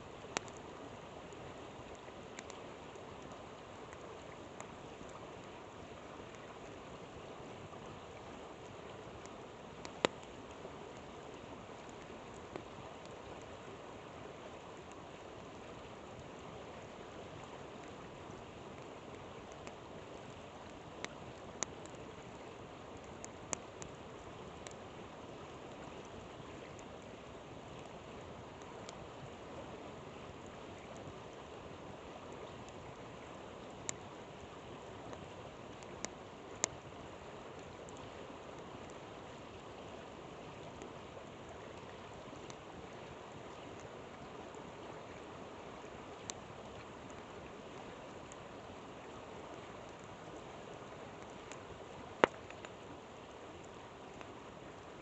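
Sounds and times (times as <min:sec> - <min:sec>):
campfire pops and crackles: 0:00.1 - 0:05.6, 0:06.2 - 0:13.7, 0:14.6 - 0:39.1, 0:40.0 - 0:45.2, 0:45.9 - 0:48.4, 0:51.1 - 0:54.4.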